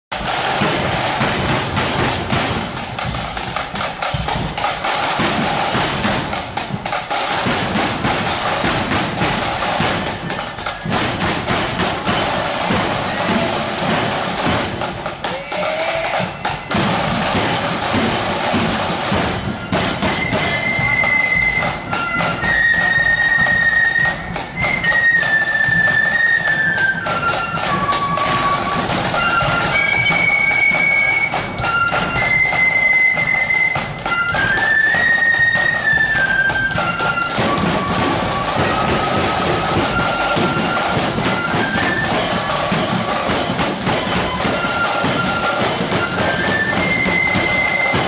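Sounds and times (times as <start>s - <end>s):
marching drums: 0.1s - 48.0s
flutes playing a tune: 4.6s - 48.0s.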